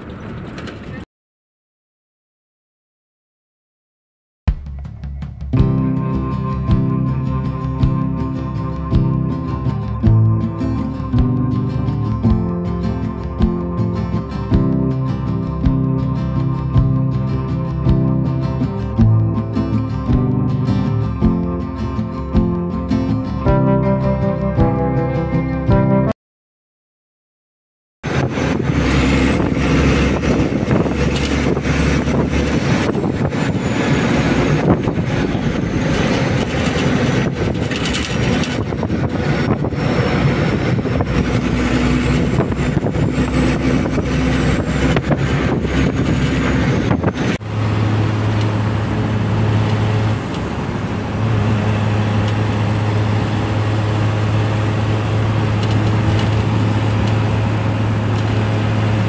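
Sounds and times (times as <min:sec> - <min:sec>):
bus engine and road noise: 0:00.0 - 0:01.1, 0:04.5 - 0:26.1, 0:28.0 - 0:59.0
deep engine hum: 0:04.5 - 0:26.2, 0:28.0 - 0:59.0.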